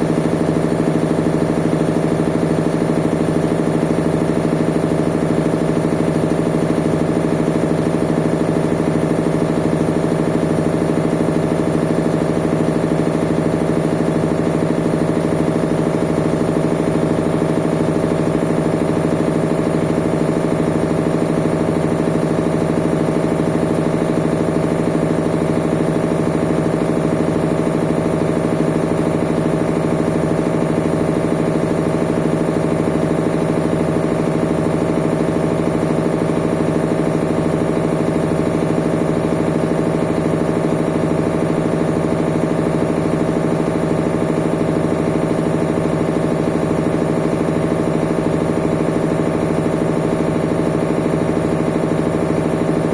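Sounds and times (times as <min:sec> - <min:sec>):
washing machine motor hum: 0:00.0 - 0:52.9.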